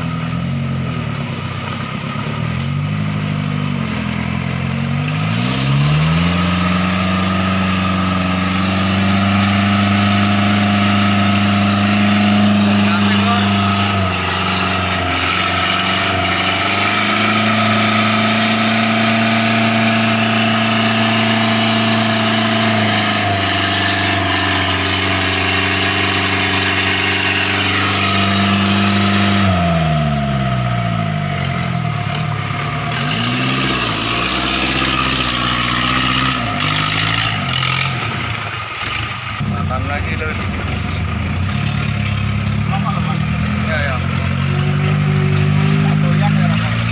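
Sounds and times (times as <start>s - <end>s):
vehicle engine revving: 0.0s - 46.9s.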